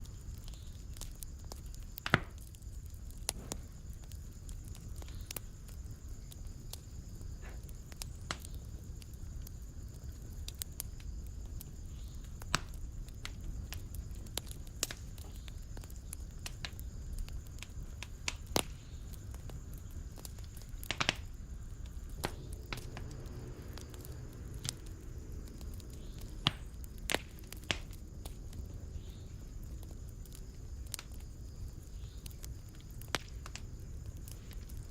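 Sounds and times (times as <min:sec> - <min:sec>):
fire popping and snapping: 0:00.0 - 0:34.9
rumble of fire flames: 0:00.0 - 0:34.9.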